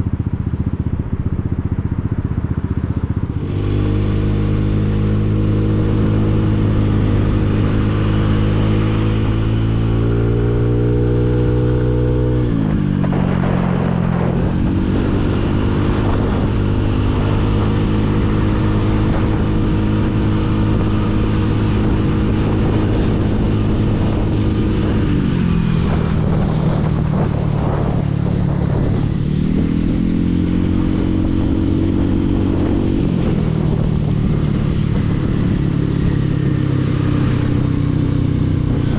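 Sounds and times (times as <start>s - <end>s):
motorcycle engine drone: 0.0s - 38.9s
road and wind noise: 0.0s - 38.9s.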